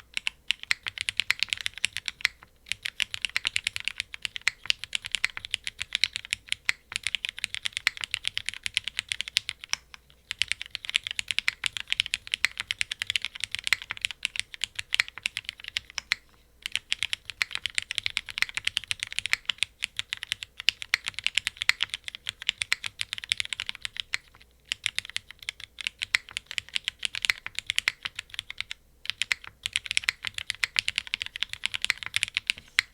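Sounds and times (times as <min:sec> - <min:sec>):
mechanical keyboard typing: 0:00.0 - 0:32.9.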